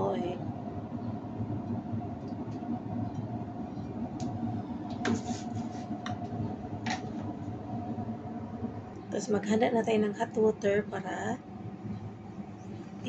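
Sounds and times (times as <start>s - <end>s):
faint hum: 0.0s - 13.0s
gas burner rumbling: 0.0s - 13.0s.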